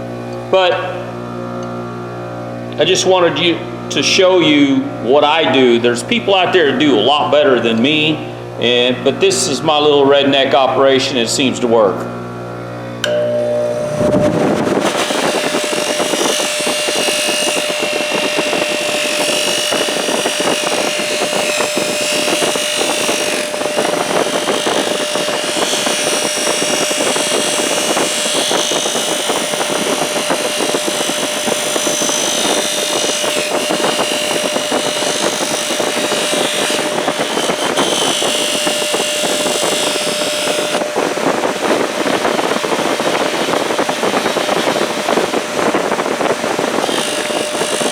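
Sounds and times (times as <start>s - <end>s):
polishing machine motor hum: 0.0s - 47.9s.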